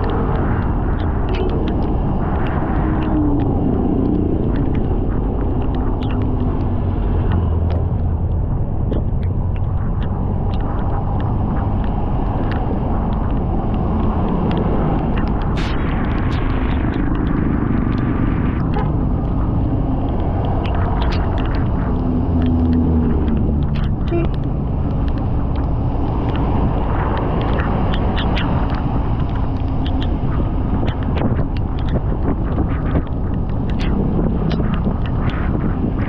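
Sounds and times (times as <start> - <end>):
road and wind rumble: 0.0 - 36.0
wind buffeting clicks and pops: 0.0 - 36.0.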